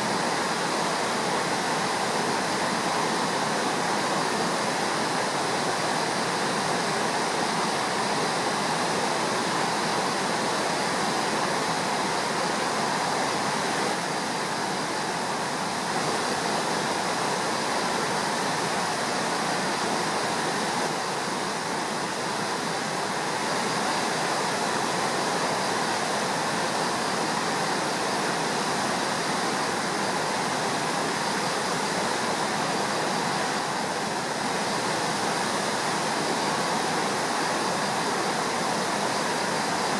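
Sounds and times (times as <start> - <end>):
river rushing in flood: 0.0 - 39.9.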